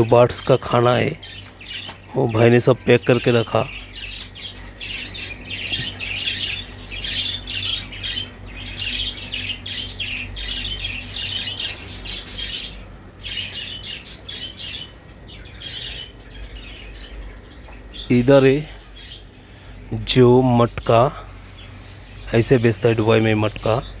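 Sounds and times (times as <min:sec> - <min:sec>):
birds chattering: 0:00.0 - 0:24.0.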